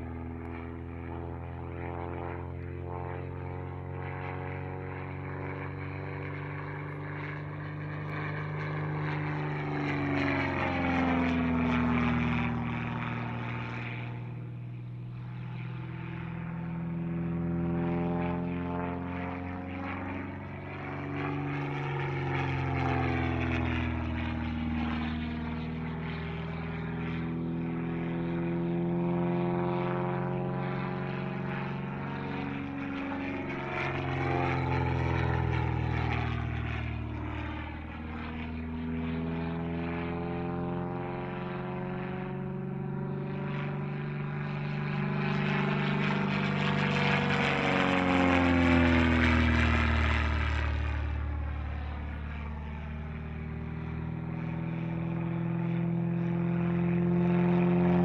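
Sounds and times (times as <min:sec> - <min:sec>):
plane engine and propeller droning: 0:00.0 - 0:58.0
whooshing sweep of passing plane: 0:00.0 - 0:58.0.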